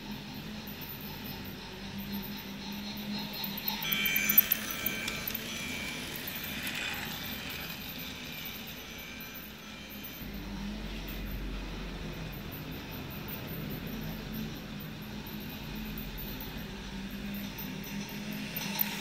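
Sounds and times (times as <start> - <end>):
toy train motor and wheels: 0.1 - 19.0
high steady tones: 0.4 - 19.0.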